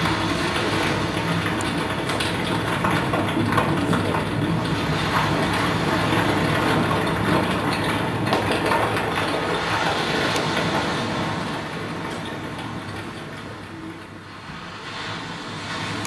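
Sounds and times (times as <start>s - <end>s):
dense rumbling electronic noise: 0.0s - 16.0s.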